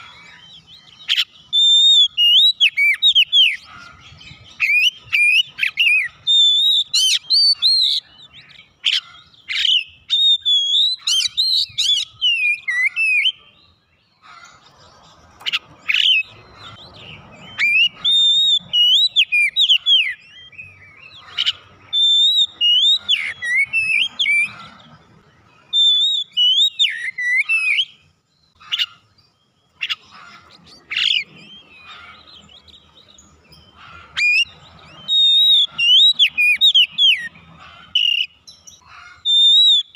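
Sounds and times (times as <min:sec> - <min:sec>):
bird singing rapid whistles: 0:00.0 - 0:13.8, 0:15.4 - 0:24.8, 0:25.4 - 0:29.0, 0:29.6 - 0:39.9.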